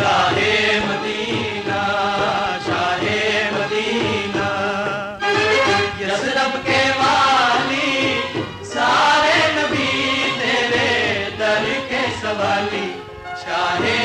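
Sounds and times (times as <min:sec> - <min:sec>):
musical accompaniment: 0:00.0 - 0:14.0
voices singing chant-like: 0:00.0 - 0:14.0.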